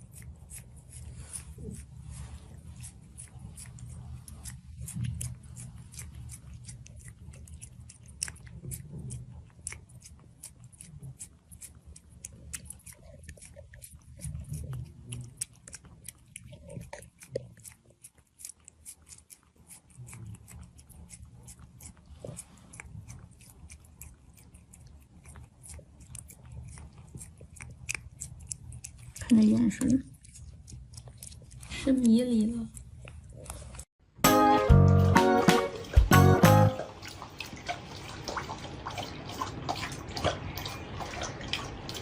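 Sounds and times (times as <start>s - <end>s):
pet chewing crunchy food: 0.0s - 34.0s, 34.8s - 42.0s.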